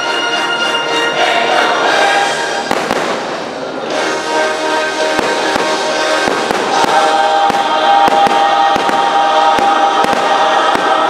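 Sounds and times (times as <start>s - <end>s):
fireworks bursting: 1.9s - 11.0s.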